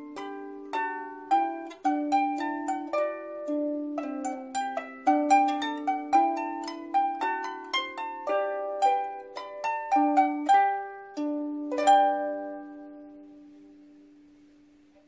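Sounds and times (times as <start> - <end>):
harp plucked: 0.0 - 13.8.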